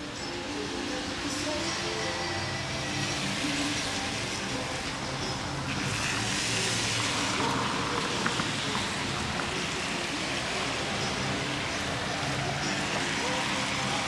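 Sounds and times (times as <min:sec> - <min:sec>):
tyres hissing on wet road: 0:00.0 - 0:14.0.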